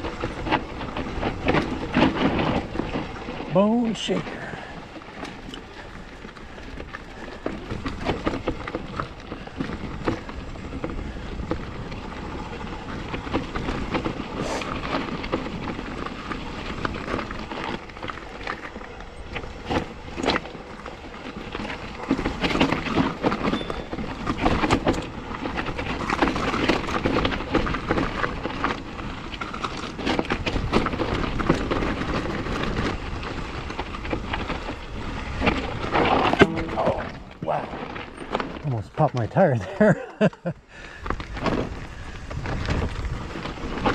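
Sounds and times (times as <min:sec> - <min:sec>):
bike knocking and rattling: 0:00.0 - 0:43.9
tyres rolling over rock: 0:00.0 - 0:43.9.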